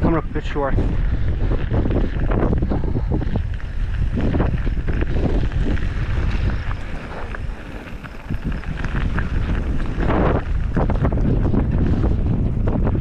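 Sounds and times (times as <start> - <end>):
wind buffeting microphone: 0.0 - 13.0
bike knocking and rattling: 0.8 - 13.0.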